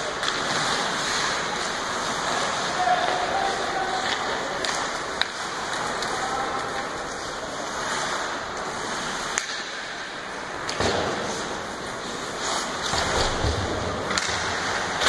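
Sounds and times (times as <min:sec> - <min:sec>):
arena and skating noise: 0:00.0 - 0:15.0.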